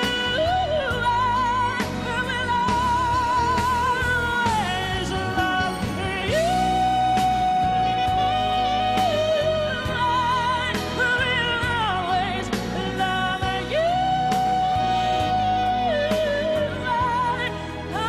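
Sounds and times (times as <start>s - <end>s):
person singing long notes: 0.0s - 18.0s.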